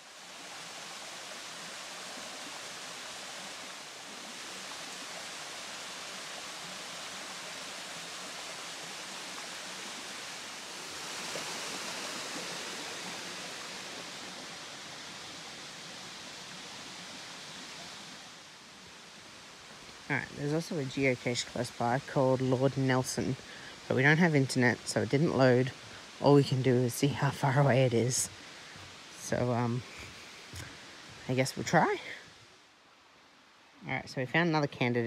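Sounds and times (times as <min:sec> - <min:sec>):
waterfall rushing: 0:00.0 - 0:32.4.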